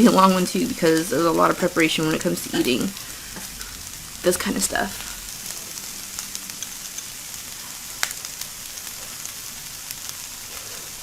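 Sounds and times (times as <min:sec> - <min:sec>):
crackling pops: 0:00.0 - 0:11.0
food sizzling on a grill: 0:00.0 - 0:11.0.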